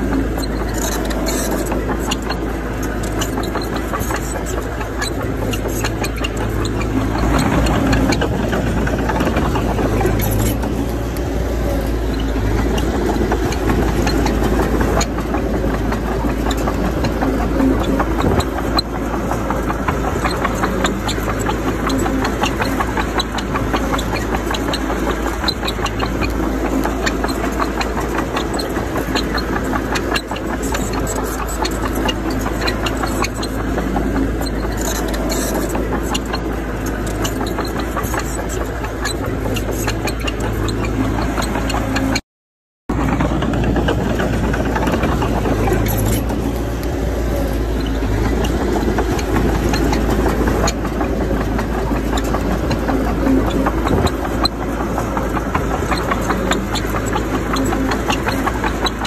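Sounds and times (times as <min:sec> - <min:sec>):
faint clicks and rattles: 0:00.0 - 0:42.2, 0:42.9 - 0:59.0
heavy machinery diesel engine running: 0:00.0 - 0:42.2, 0:42.9 - 0:59.0.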